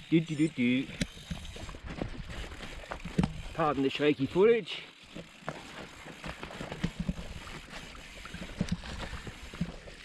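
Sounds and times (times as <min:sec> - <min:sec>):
bike rattling: 0:00.0 - 0:10.0
bike tyres crunching on dirt: 0:00.0 - 0:10.0.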